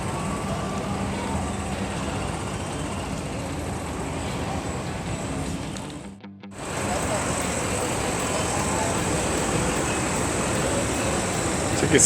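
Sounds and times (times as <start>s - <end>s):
road traffic engine hum: 0.0s - 6.0s, 6.6s - 12.0s.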